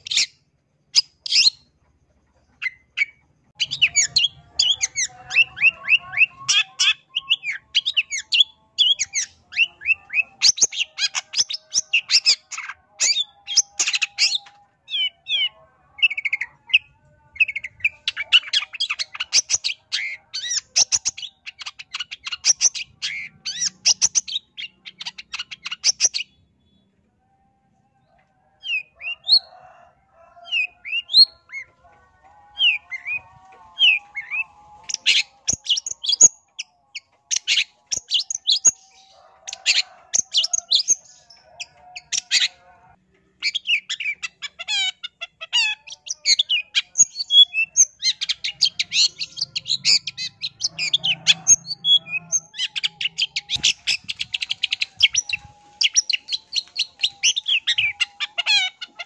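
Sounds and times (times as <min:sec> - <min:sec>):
bird chirping and chattering: 0:00.0 - 0:16.6, 0:17.4 - 0:26.7, 0:33.8 - 0:42.6, 0:43.4 - 0:59.0.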